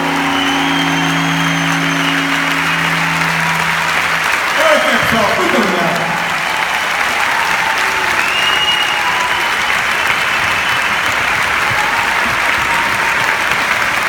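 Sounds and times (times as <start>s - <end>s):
large audience applauding: 0.0s - 14.0s.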